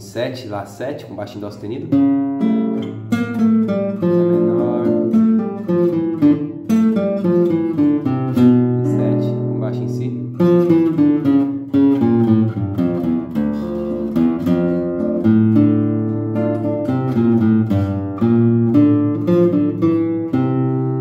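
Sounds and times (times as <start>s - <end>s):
acoustic guitar played solo: 1.8s - 21.0s.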